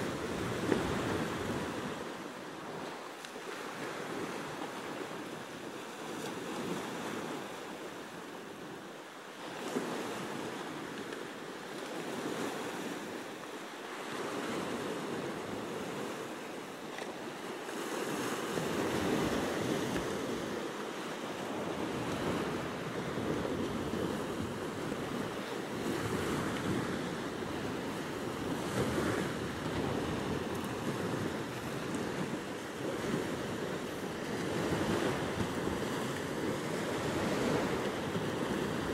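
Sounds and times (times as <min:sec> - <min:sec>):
waves washing onto sandy beach: 0:00.0 - 0:38.9.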